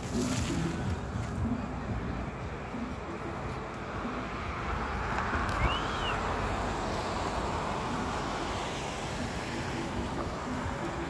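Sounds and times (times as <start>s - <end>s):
passing vehicles rushing: 0.0s - 11.0s.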